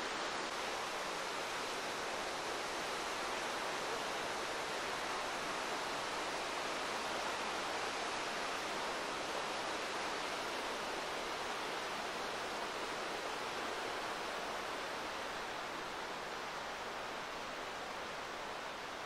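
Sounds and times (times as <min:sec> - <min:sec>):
river water flowing over rocks: 0:00.0 - 0:19.0.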